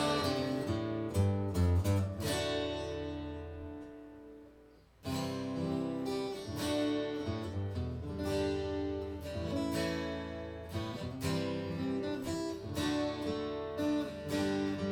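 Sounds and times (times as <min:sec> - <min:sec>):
acoustic guitar strumming chords: 0:00.0 - 0:14.9.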